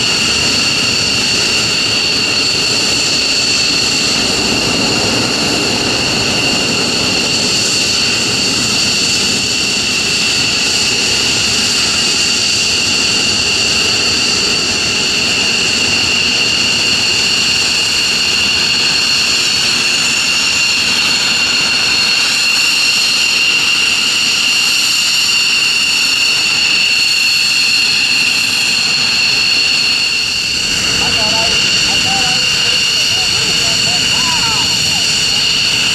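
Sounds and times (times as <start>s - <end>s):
jet engines whining and roaring: 0.0s - 35.9s.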